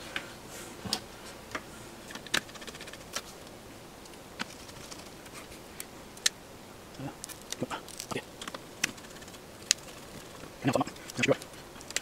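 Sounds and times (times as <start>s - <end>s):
rattle of small ticks: 2.1s - 12.0s.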